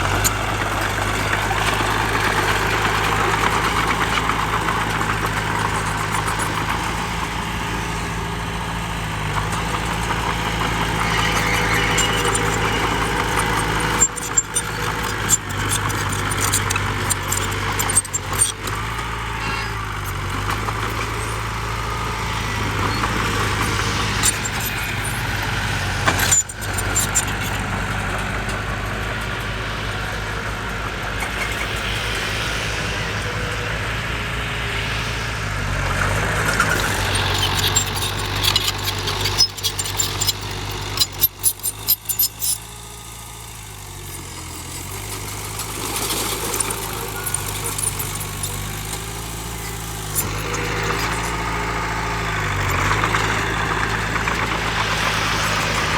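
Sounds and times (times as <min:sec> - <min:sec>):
diesel machinery engine running: 0:00.0 - 0:55.9.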